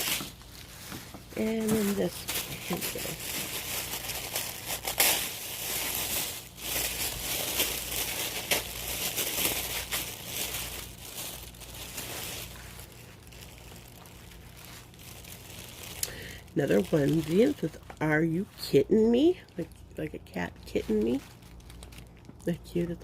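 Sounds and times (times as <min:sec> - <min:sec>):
packaging crinkling and rustling: 0:00.0 - 0:18.3, 0:19.1 - 0:23.0.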